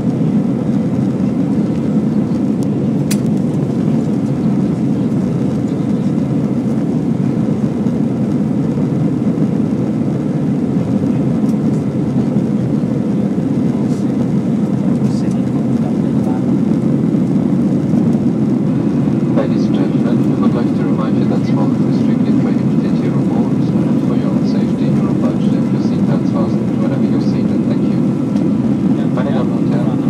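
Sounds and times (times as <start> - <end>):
jet airliner cabin noise: 0.0 - 30.0.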